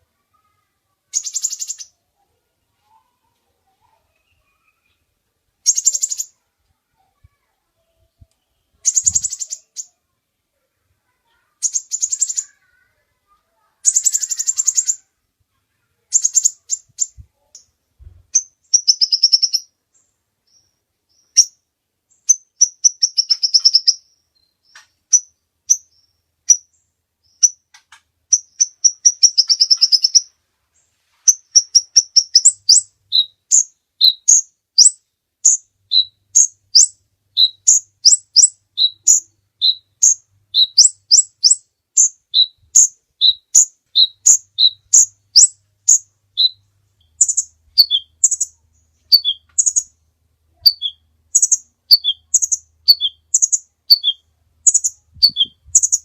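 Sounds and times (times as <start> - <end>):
small bird singing rapid trills: 0.1 - 3.1, 5.6 - 10.1, 11.1 - 15.2, 15.8 - 27.7, 28.3 - 30.3, 31.3 - 56.0.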